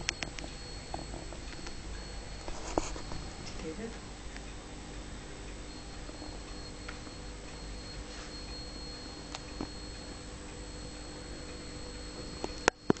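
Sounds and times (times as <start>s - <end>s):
high-pitched electronic whine: 0.0s - 13.0s
low hum: 0.0s - 13.0s.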